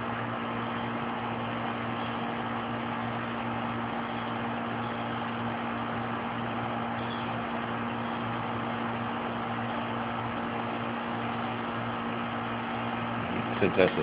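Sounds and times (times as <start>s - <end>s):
motor droning: 0.0s - 14.0s.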